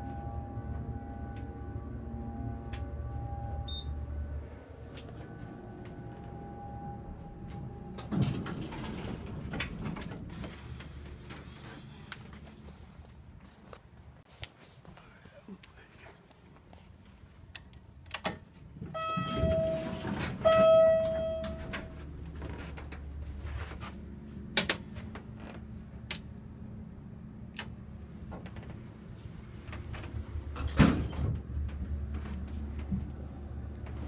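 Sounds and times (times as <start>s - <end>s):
elevator low rumble: 0.0s - 14.2s, 17.0s - 34.0s.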